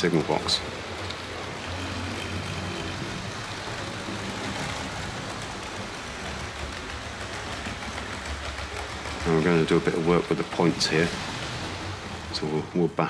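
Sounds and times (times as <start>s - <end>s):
model train motor hum: 0.0s - 13.0s
wheel rumble: 0.0s - 13.0s.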